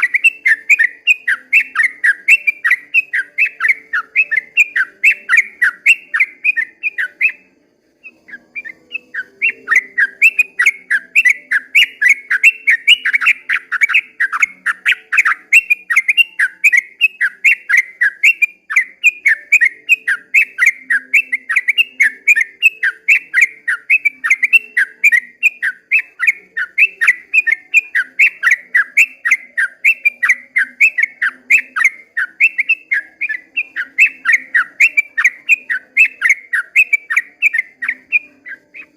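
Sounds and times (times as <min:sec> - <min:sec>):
bulbul singing chattering notes: 0:00.0 - 0:38.9.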